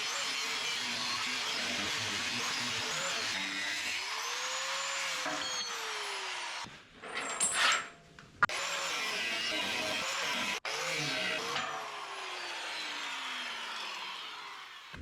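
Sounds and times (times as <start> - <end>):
power tool cutting steel: 0.0 - 6.7, 8.4 - 15.0.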